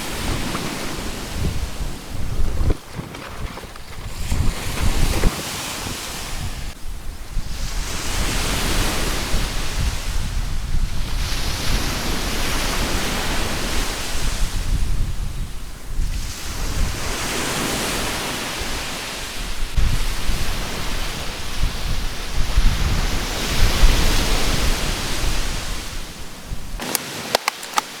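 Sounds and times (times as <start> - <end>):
sea surf washing onto beach: 0.0 - 14.9, 16.1 - 28.0
wind rumbling on microphone: 0.0 - 28.0.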